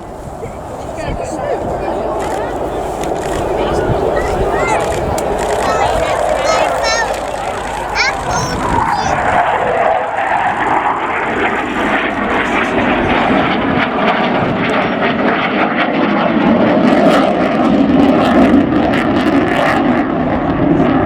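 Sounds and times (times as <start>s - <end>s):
aircraft engines flying past: 0.0s - 21.0s.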